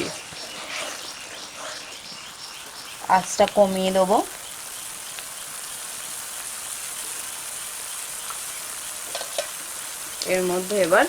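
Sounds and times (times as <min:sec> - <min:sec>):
broth sizzling in a pan: 0:00.0 - 0:11.0.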